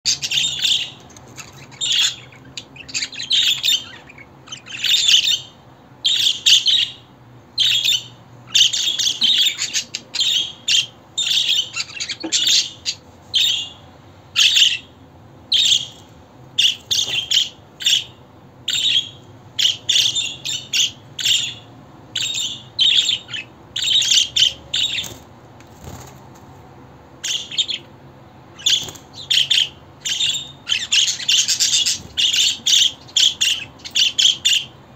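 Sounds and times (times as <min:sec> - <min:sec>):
budgerigar chirping and chattering: 0:00.1 - 0:13.8, 0:14.4 - 0:14.9, 0:16.6 - 0:25.2, 0:27.2 - 0:27.8, 0:28.6 - 0:34.8.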